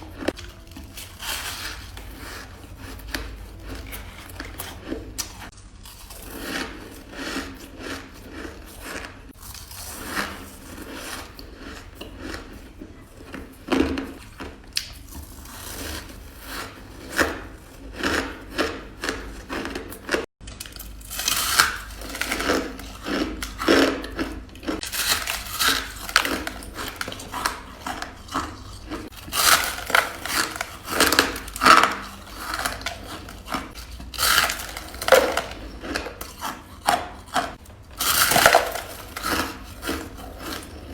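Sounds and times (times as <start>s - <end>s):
teeth crunching ice: 0.0s - 40.9s.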